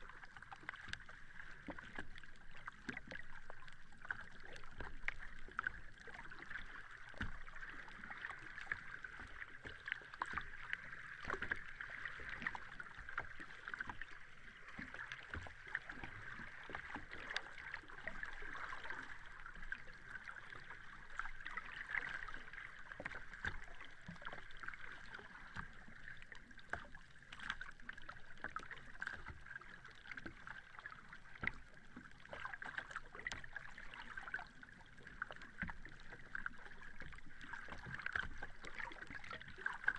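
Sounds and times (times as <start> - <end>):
sea water lapping and sloshing: 0.0 - 39.9
small water splashes: 0.0 - 39.9.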